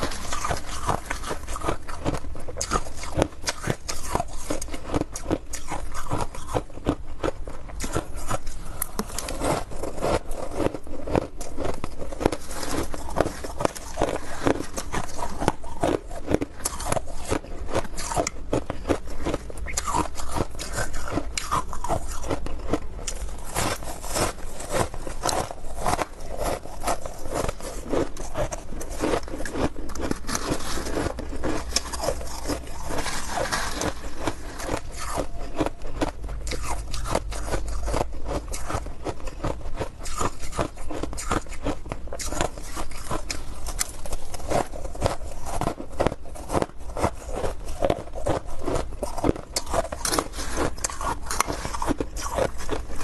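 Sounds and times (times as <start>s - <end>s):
ice crunching while chewed: 0.0s - 53.0s.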